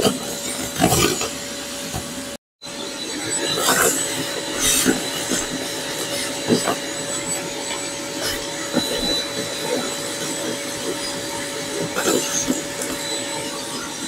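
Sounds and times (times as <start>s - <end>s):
shop vacuum whining: 0.0s - 14.0s.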